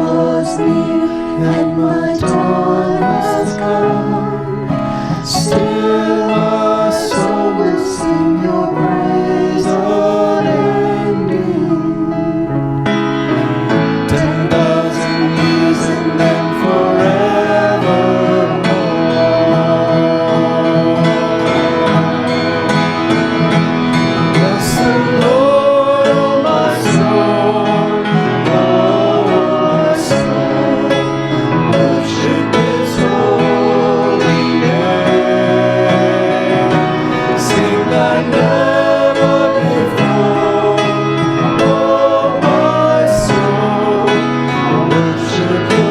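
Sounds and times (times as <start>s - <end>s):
instrumental accompaniment: 0.0s - 45.9s
voices singing a hymn: 0.0s - 45.9s.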